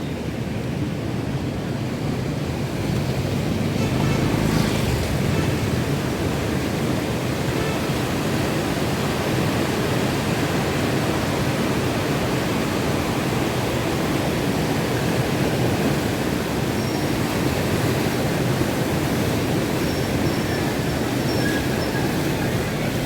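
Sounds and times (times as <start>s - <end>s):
wind: 0.0s - 23.0s
roar of waves: 1.2s - 23.0s.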